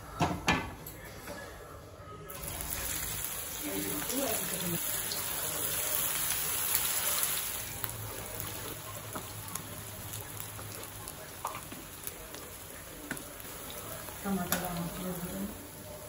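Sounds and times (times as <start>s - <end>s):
hot oil sizzling: 2.3s - 16.0s.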